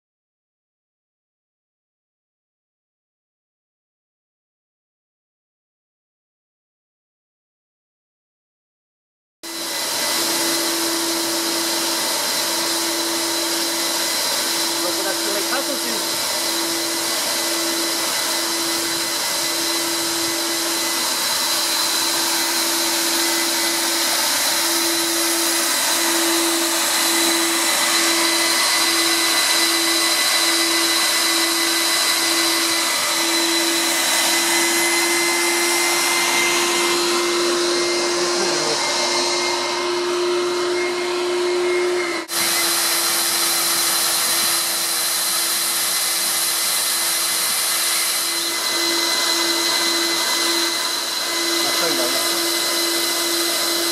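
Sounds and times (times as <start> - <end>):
pool vacuum motor humming: 9.4 - 53.9.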